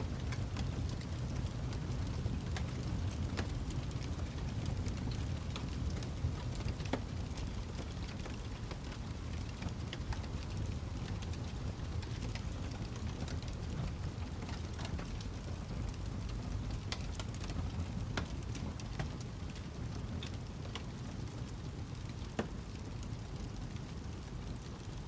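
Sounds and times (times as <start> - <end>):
fire rumbling: 0.0 - 25.0
wood fire pops and snaps: 0.1 - 25.0.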